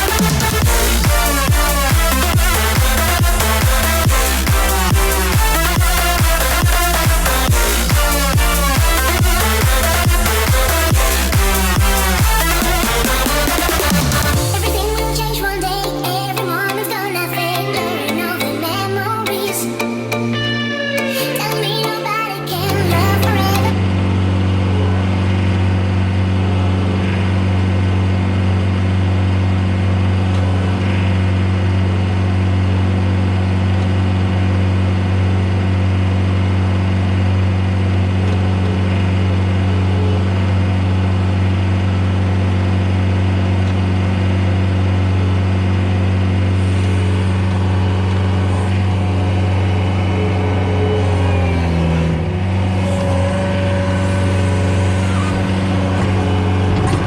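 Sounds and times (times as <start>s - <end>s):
engine running: 0.0s - 17.0s, 22.5s - 57.0s.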